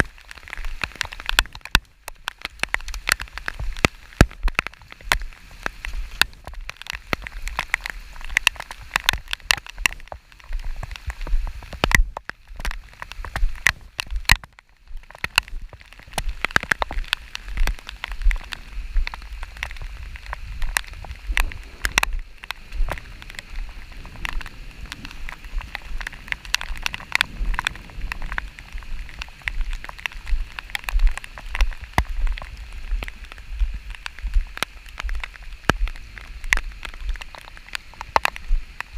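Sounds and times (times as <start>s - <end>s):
rain hiss: 0.0s - 38.9s
raindrops ticking: 0.0s - 38.9s.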